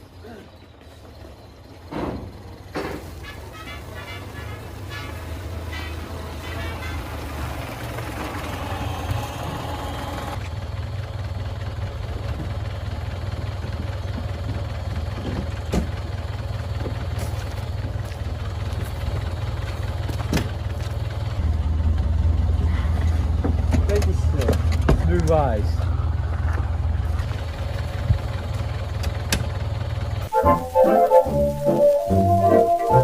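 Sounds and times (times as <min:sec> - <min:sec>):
car engine running: 0:06.5 - 0:33.0.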